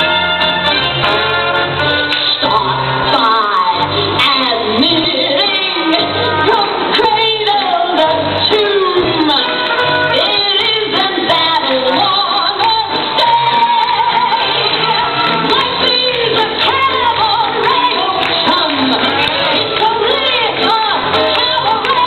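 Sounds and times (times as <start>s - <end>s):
dance music with woman singing: 2.0s - 22.0s.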